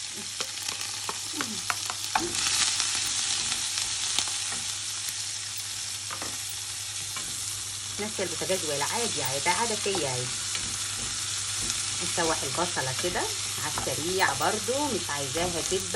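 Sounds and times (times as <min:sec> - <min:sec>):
onion sizzling in oil: 0:00.0 - 0:15.9.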